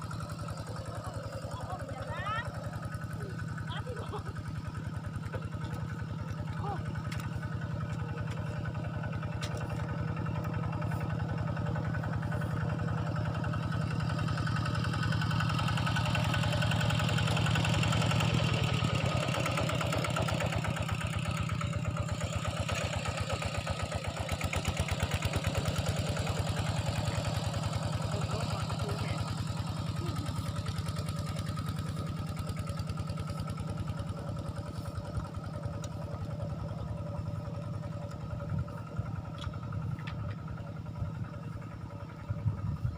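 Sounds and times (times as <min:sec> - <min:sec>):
small engine chugging: 0:00.0 - 0:42.9.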